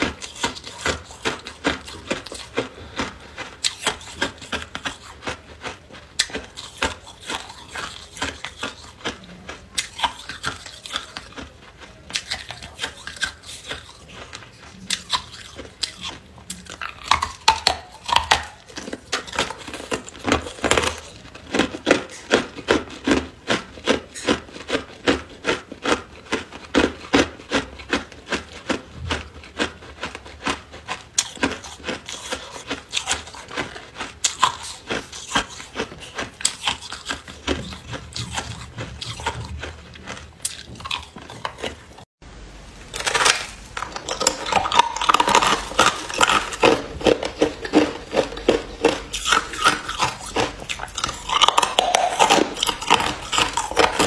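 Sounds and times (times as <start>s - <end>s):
ice crunching while chewed: 0.0s - 42.1s, 42.9s - 54.0s.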